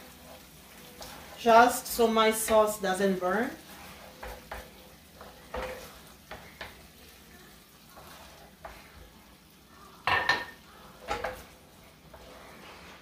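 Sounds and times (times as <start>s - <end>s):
low steady sizzle: 0.0s - 13.0s
wooden spoon scraping a frying pan: 0.0s - 13.0s.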